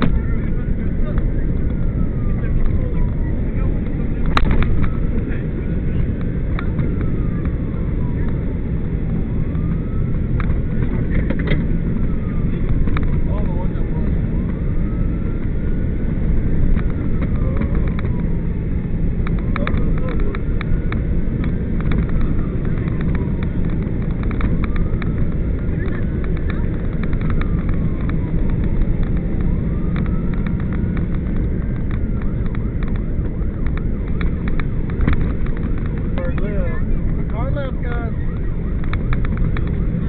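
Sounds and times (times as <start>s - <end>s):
emergency siren wailing: 0.0s - 40.0s
vehicle engine and road noise: 0.0s - 40.0s.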